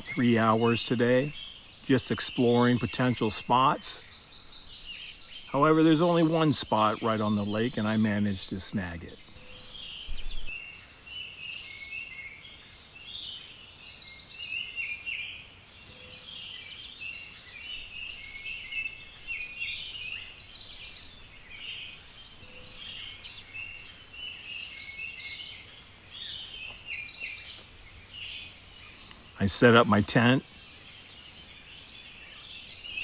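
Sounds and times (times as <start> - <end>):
insect pulsing call: 0.0 - 33.0.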